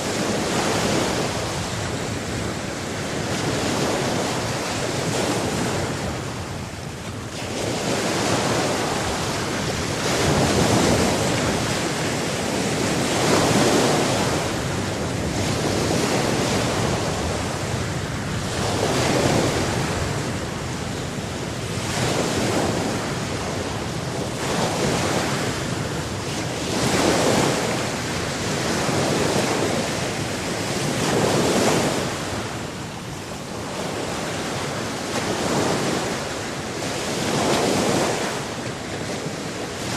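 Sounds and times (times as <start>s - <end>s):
ocean surf waves breaking: 0.0s - 39.9s.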